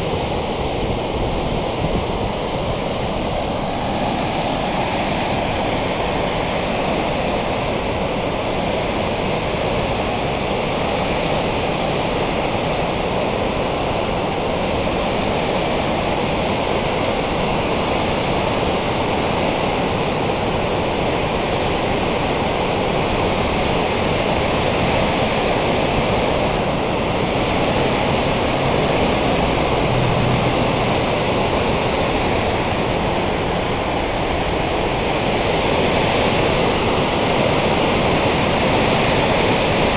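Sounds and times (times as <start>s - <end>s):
water rushing over a dam spillway: 0.0s - 39.9s.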